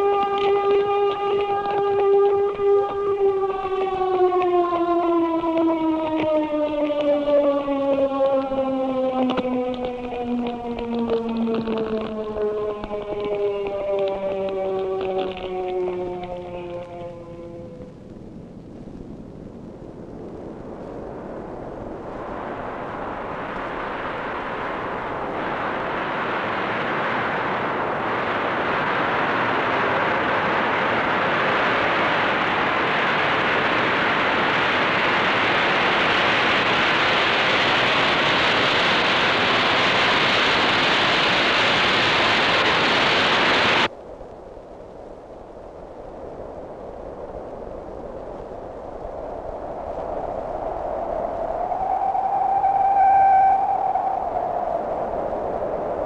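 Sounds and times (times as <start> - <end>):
jet engines roaring: 0.0 - 18.2, 19.8 - 43.9, 50.4 - 56.0.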